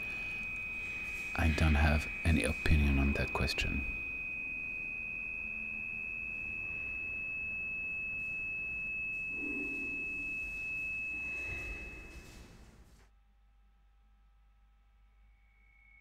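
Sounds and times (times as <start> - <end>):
high pure steady tone: 0.0 - 16.0.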